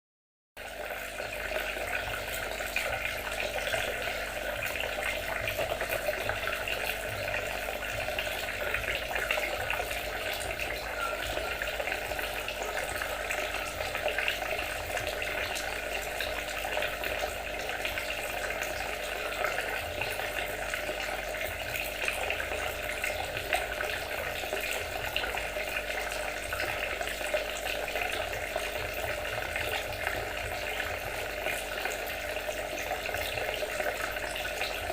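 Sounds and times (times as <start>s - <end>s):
water trickling and splashing: 0.6s - 34.9s.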